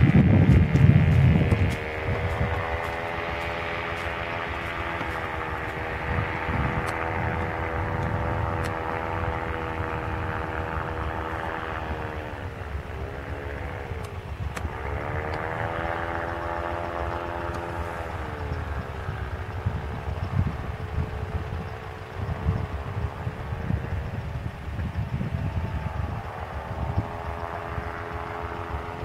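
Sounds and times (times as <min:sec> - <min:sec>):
paramotor engine droning: 0:00.0 - 0:29.0
wind buffeting microphone: 0:00.0 - 0:29.0.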